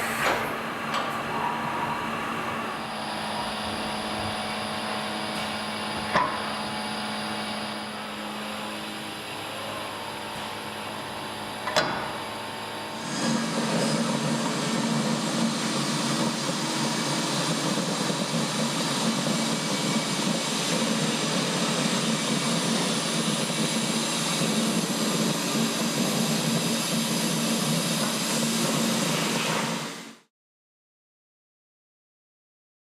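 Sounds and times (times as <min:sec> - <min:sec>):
machine spindle whirring: 0:00.0 - 0:30.2.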